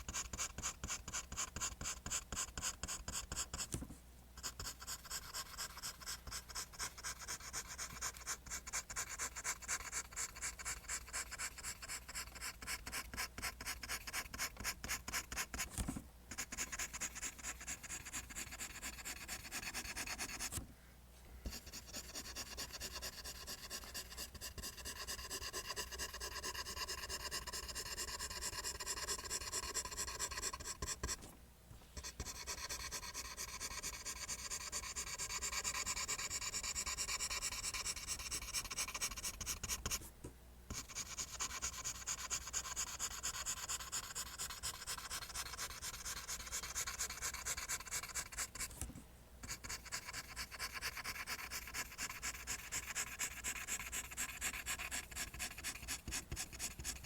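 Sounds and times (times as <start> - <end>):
pencil scratching on paper: 0.0 - 3.8, 4.4 - 20.6, 21.5 - 31.3, 32.0 - 40.1, 40.7 - 48.8, 49.4 - 57.0.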